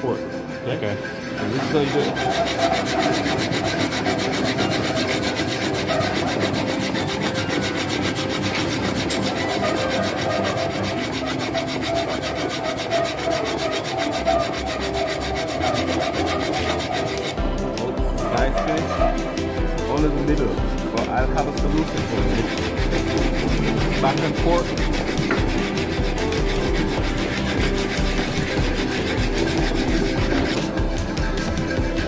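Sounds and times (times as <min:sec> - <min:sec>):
file rasping on metal: 0:00.0 - 0:32.0.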